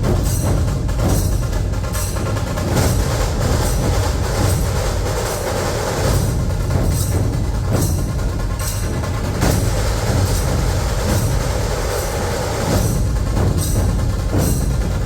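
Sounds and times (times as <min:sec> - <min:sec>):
cymbals clashing: 0:00.0 - 0:15.0
deep booming drums: 0:00.0 - 0:15.0
rapid rattling snare drums: 0:00.0 - 0:15.0.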